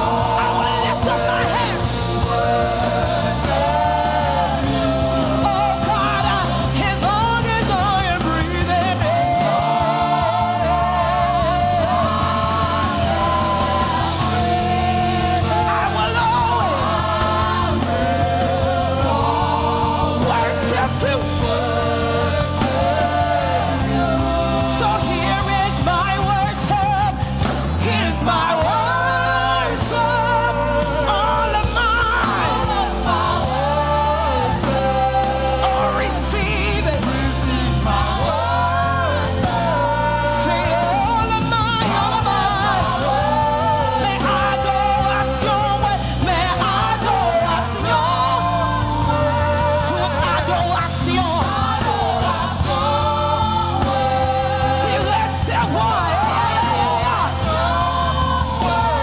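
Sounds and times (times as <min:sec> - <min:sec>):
band accompaniment: 0:00.0 - 0:59.0
person singing with vibrato: 0:00.0 - 0:59.0
steady bass notes: 0:00.0 - 0:59.0.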